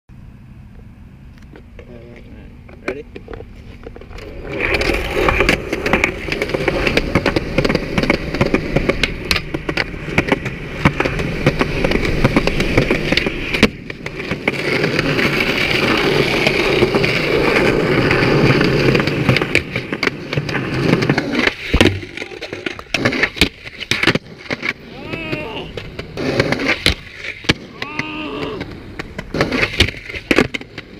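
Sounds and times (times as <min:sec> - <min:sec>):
skateboard wheels rolling on concrete: 0:00.2 - 0:30.9
skateboard pops and clacks: 0:02.7 - 0:30.9.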